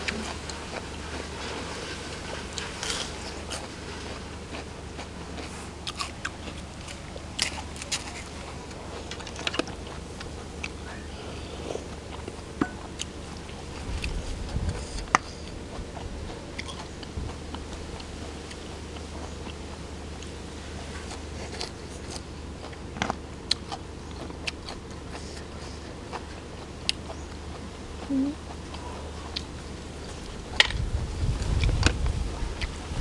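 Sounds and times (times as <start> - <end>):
person biting and chewing: 2.3 - 10.8, 11.5 - 32.8.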